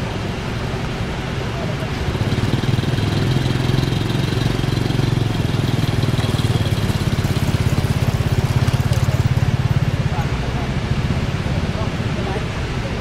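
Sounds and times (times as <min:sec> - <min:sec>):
small engine idling: 0:00.0 - 0:12.4.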